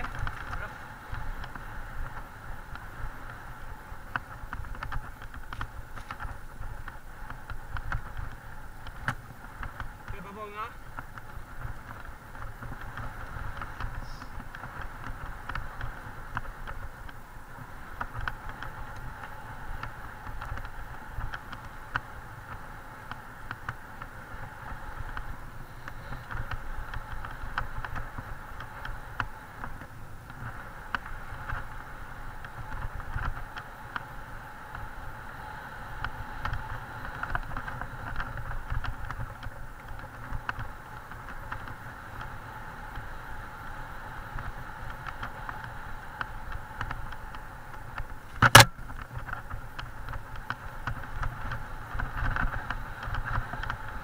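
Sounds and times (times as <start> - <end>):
bike clicks and rattles: 0.0 - 54.0
tyre and wind rumble: 0.0 - 54.0.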